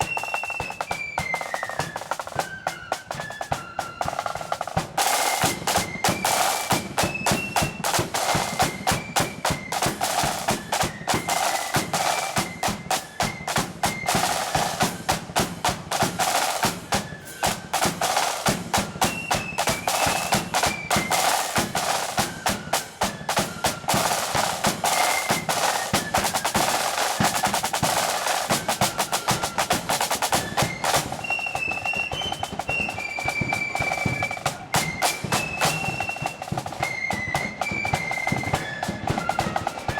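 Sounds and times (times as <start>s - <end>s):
flute melody: 0.0s - 39.9s
snare drum rolls: 0.0s - 39.9s.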